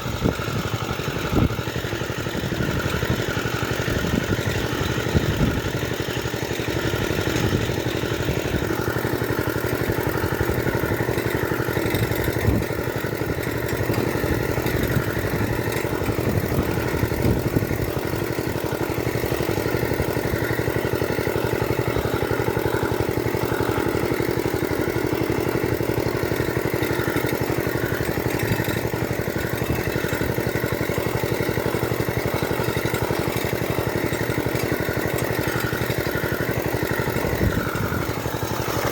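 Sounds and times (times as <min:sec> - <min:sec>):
small engine running steadily: 0:00.0 - 0:38.9.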